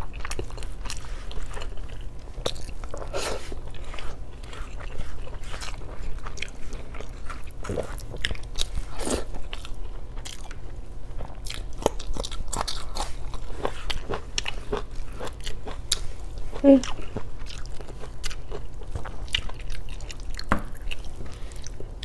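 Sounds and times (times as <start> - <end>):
person chewing and biting food: 0.0 - 22.0.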